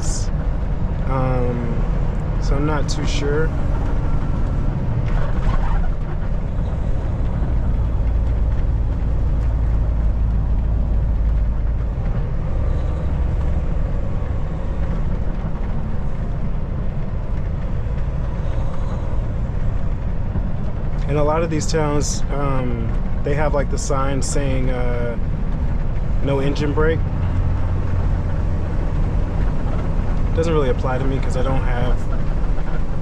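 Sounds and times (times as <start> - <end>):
road noise: 0.0 - 33.0
truck engine rumble: 0.0 - 33.0.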